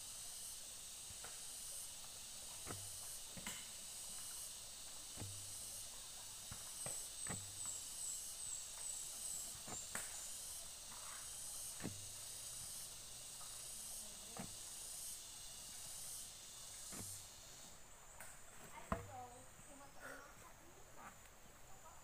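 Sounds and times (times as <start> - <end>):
high insect hiss: 0.0 - 22.0.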